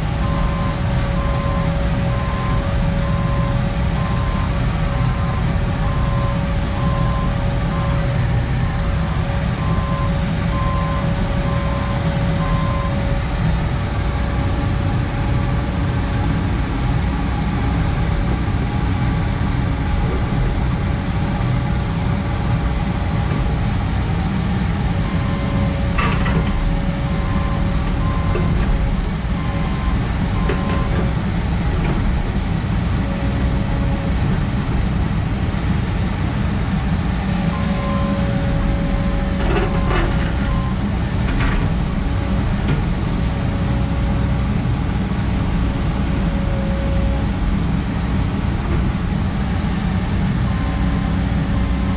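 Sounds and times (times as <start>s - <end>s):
diesel engine rumbling: 0.0s - 51.9s.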